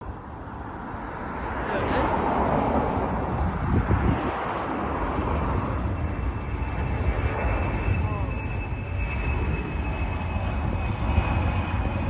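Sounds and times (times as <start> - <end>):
jet engines rushing and rumbling: 0.0 - 12.0.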